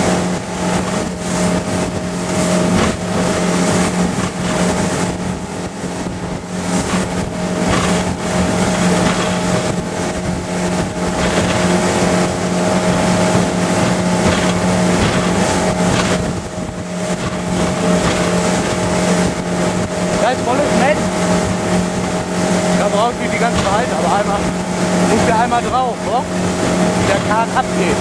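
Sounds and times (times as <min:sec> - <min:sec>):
motorboat engine drone: 0:00.0 - 0:28.0
water churning: 0:00.0 - 0:28.0.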